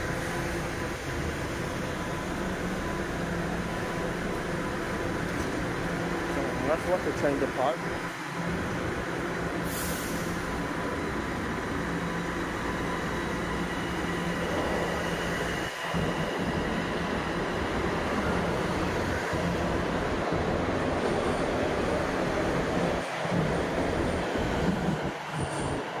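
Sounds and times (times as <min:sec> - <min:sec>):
subway train motors and wheels humming: 0:00.0 - 0:26.0.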